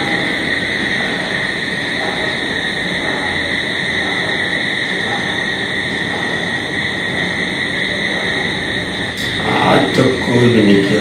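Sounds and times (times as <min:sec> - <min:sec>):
constant high whine: 0:00.0 - 0:11.0
machine whirring hiss: 0:00.0 - 0:11.0.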